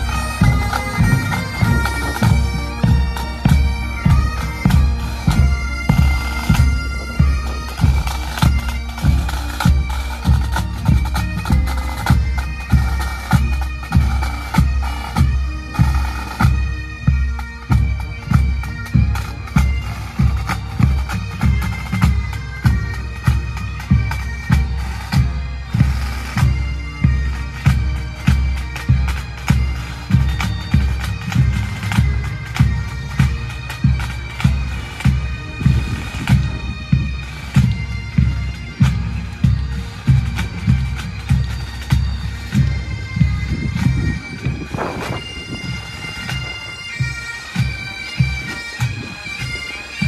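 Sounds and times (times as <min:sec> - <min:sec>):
bagpipes playing: 0:00.0 - 0:50.0
pipe band drums: 0:00.0 - 0:50.0.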